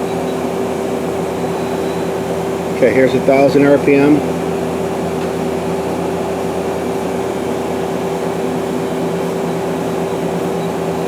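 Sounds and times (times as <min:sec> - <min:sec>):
lathe spindle humming: 0:00.0 - 0:11.0.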